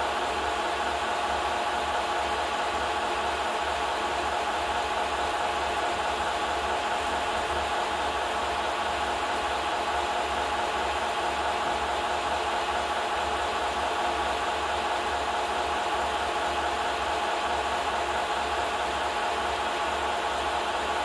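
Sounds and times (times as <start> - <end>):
film projector whirring: 0.0 - 21.0.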